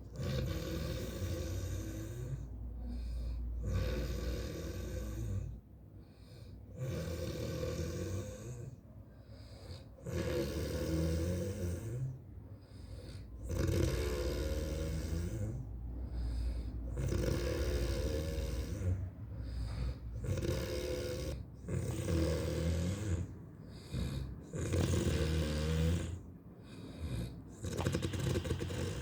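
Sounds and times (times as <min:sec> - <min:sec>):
heavy rattling snoring: 0:00.0 - 0:05.6, 0:06.7 - 0:08.8, 0:09.7 - 0:12.2, 0:12.8 - 0:29.0.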